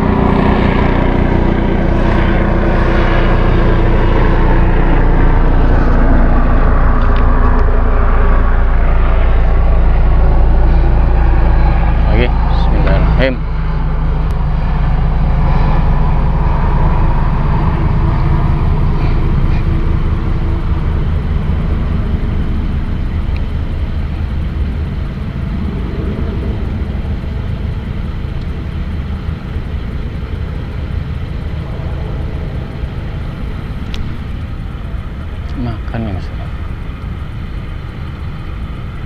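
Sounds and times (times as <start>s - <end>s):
motor engine droning: 0.0s - 39.0s.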